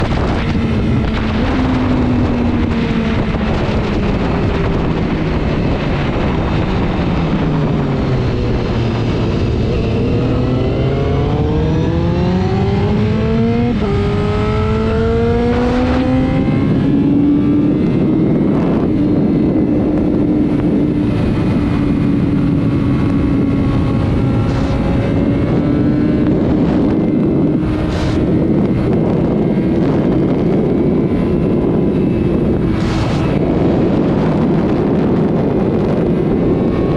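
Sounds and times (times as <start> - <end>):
motorcycle engine revving: 0.0 - 36.9
wind rush: 0.0 - 36.9.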